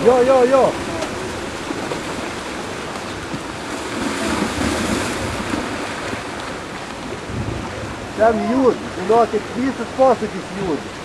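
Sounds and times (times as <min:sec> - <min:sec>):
water and ice rushing: 0:00.0 - 0:11.0
wind buffeting microphone: 0:00.0 - 0:11.0.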